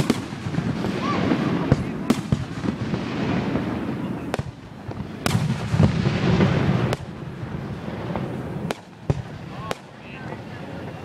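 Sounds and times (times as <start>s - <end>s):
firework shells bursting: 0.0s - 10.4s
low rumble of firework reports: 0.0s - 11.0s.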